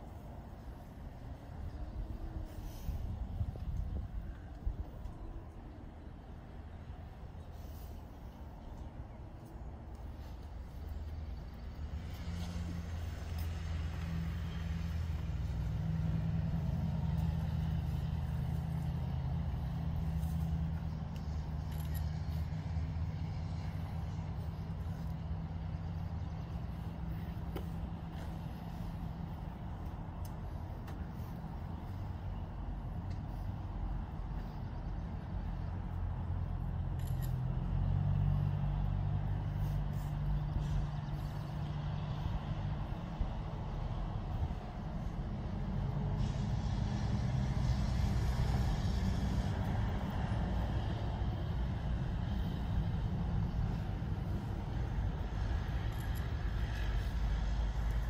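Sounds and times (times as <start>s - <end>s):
engine idling low rumble: 0.0s - 58.0s.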